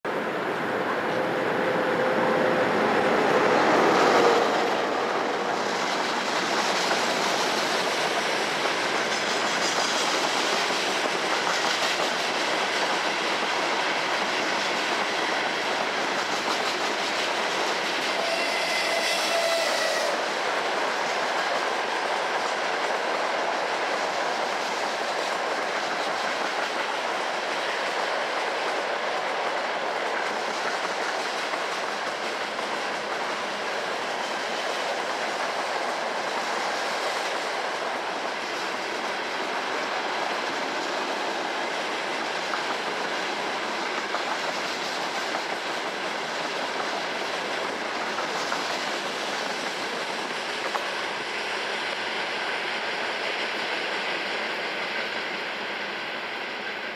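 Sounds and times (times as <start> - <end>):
passenger train passing: 0.0 - 56.9
train wheels clattering over rail joints: 3.4 - 55.2.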